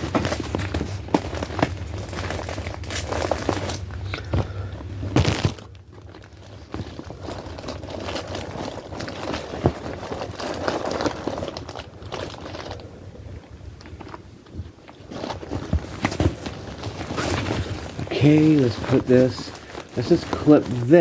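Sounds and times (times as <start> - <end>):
fabric and packaging rustling: 0.0 - 21.0.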